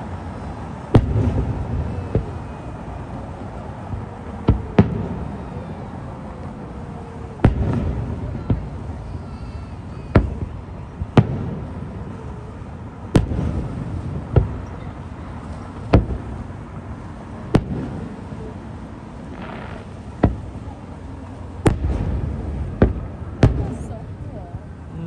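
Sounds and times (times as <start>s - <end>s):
fireworks bangs with echo: 0.6s - 5.6s, 6.7s - 24.3s.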